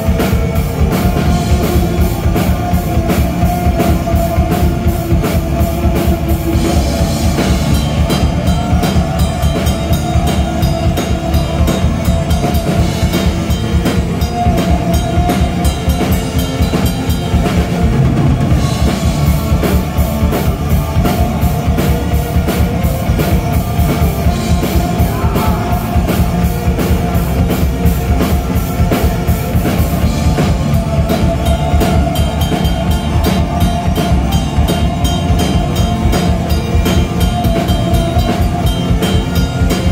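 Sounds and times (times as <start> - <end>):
distorted electric guitars: 0.0 - 39.9
rapid drumming on drum kit: 0.0 - 39.9.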